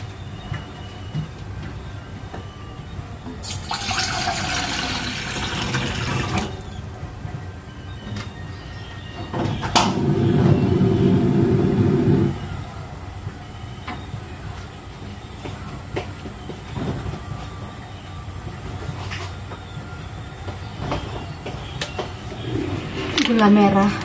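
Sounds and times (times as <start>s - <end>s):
gas flame rumbling: 0.0s - 24.0s.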